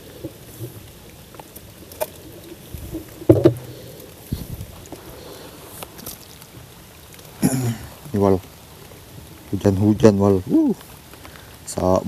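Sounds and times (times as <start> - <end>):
light rain patter: 0.0 - 12.0.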